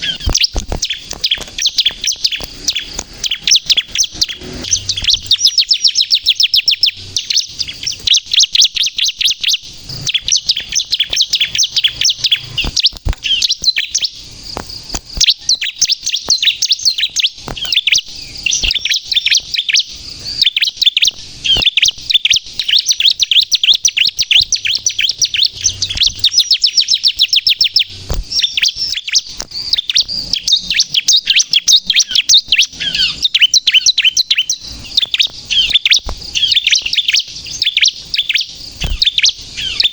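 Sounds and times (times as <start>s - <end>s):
bird trilling high chirps: 0.0s - 39.9s.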